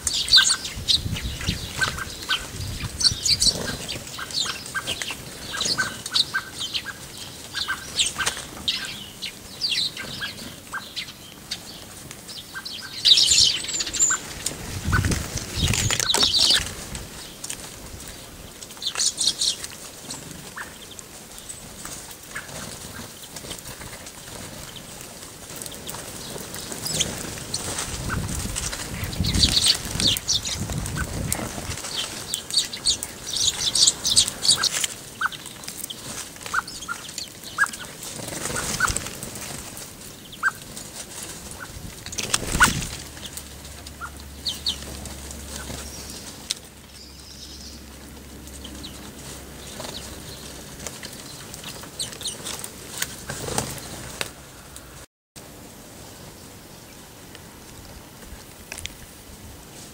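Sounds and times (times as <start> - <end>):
small birds' wings flapping: 0.0 - 59.9.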